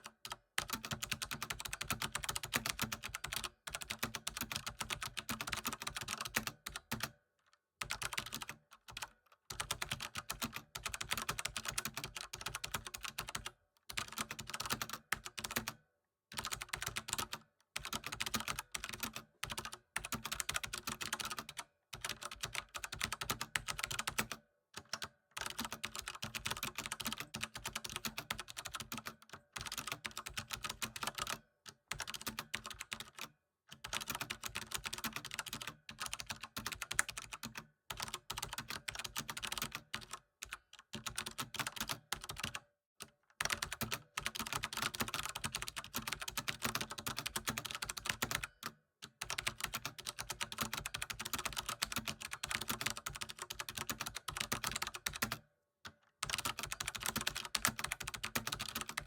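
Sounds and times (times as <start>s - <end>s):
computer keyboard typing: 0.0s - 7.2s, 7.8s - 55.4s, 56.2s - 59.0s.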